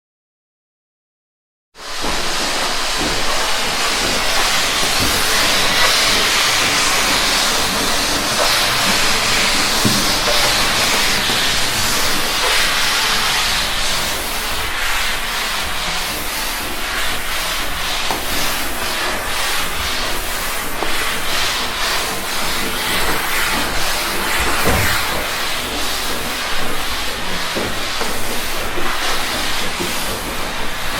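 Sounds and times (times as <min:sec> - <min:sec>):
steam cleaner hissing: 0:01.8 - 0:30.9.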